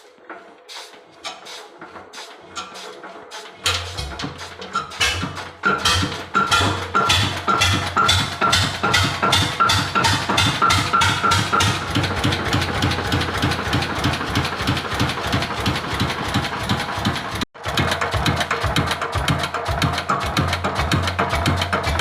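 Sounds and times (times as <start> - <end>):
music with steady beat: 0.0 - 15.8, 18.3 - 22.0
stationary engine firing strokes: 2.6 - 21.9.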